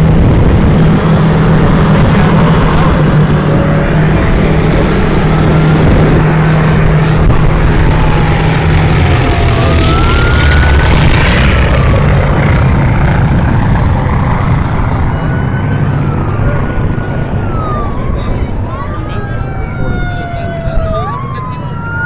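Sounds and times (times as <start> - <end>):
loud low rumble: 0.0 - 21.4
fire truck siren wailing: 0.0 - 22.0.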